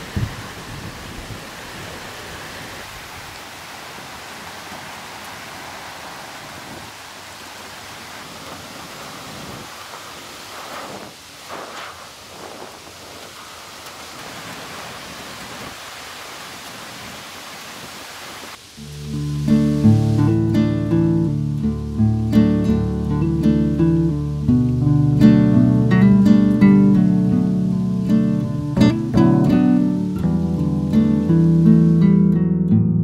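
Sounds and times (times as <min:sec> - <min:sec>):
heavy rain: 0:00.0 - 0:32.7.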